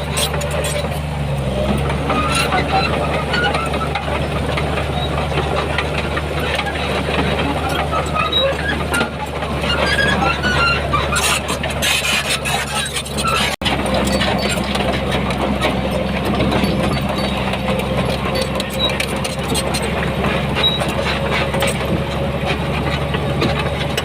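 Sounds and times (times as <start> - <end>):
heavy diesel engine running: 0.0 - 24.0
machinery squeaks and clanks: 0.0 - 24.0.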